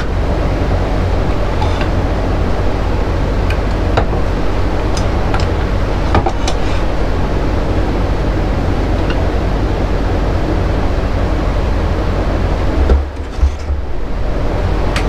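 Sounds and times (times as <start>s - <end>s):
wood lathe humming: 0.0s - 12.9s.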